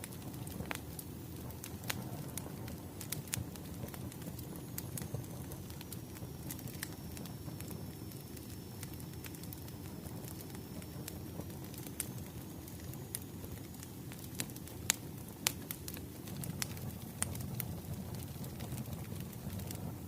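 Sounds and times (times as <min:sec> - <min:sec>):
fire pops and snaps: 0:00.0 - 0:20.0
low rumble of burning logs: 0:00.0 - 0:20.0.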